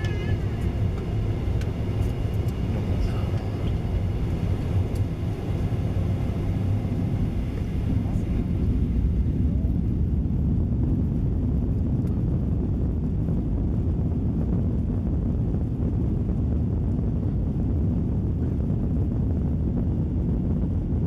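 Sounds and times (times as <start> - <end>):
jet engines and airflow in cabin: 0.0 - 21.0.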